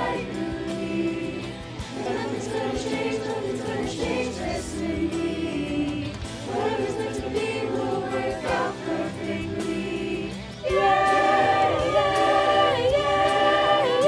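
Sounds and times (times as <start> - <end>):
choir singing in harmony: 0.0 - 14.0
instrumental accompaniment: 0.0 - 14.0.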